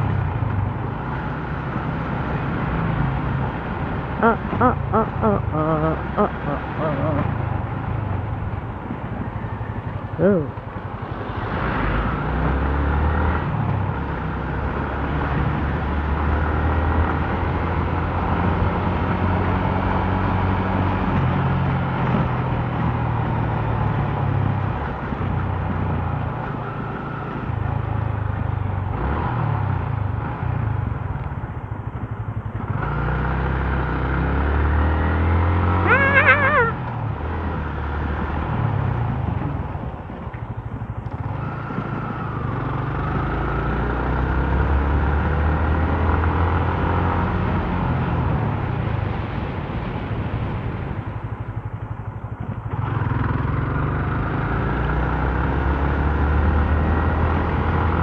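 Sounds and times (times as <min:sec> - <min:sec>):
motorcycle engine in traffic: 0:00.0 - 0:58.0.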